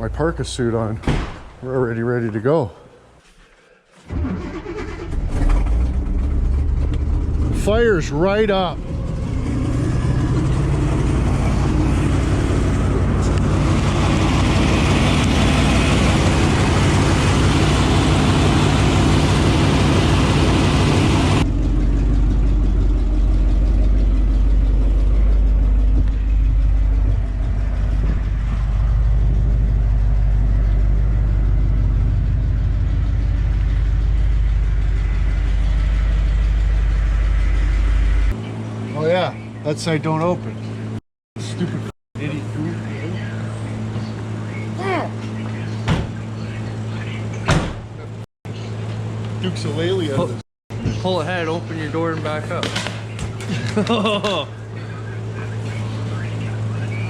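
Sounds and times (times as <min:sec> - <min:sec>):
truck engine running: 0:04.1 - 0:57.0.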